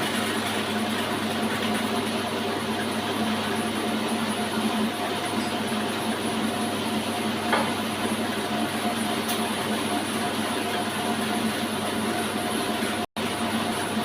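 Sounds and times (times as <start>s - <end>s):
sawmill running: 0.0s - 14.0s.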